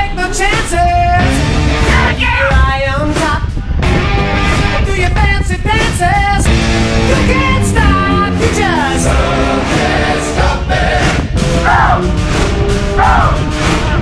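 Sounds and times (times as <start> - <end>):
rock music with singing: 0.0 - 14.0.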